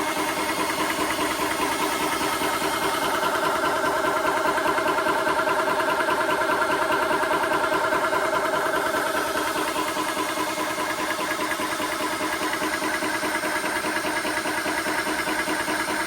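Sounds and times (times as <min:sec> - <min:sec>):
air compressor pulsing: 0:00.0 - 0:16.0.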